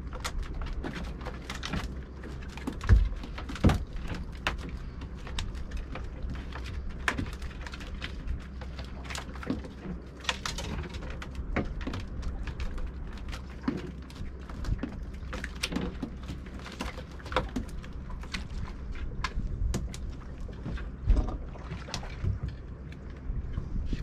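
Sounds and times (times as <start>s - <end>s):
clicks and knocks of fishing gear: 0.0s - 24.0s
low rumble of wind and water: 0.0s - 24.0s.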